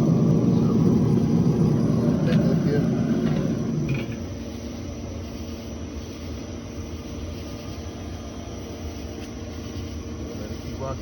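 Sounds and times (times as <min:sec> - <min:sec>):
fan or motor humming: 0:00.0 - 0:11.0.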